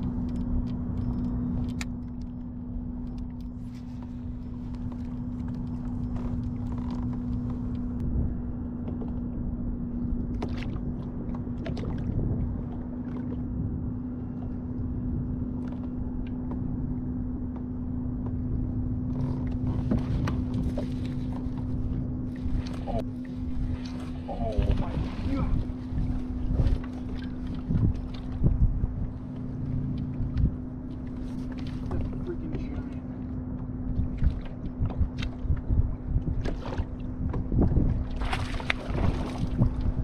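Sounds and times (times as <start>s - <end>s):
low rumble: 0.0s - 40.0s.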